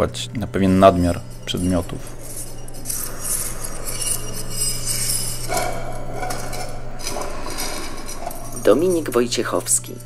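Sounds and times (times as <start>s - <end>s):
low steady hum: 0.0s - 10.0s
dishes and cutlery clinking: 1.0s - 10.0s.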